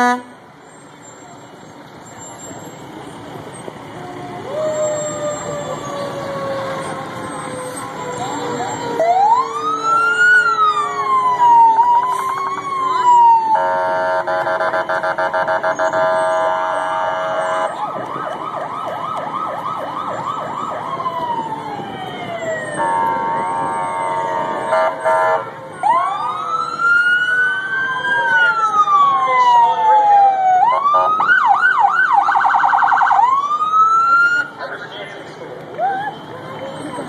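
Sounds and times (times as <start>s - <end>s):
police sirens wailing: 0.0s - 37.0s.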